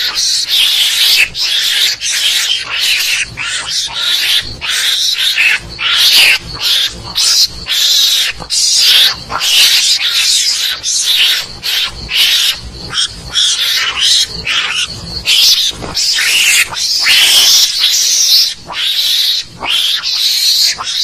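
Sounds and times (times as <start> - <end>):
mongoose raspy screeches: 0.0 - 21.0.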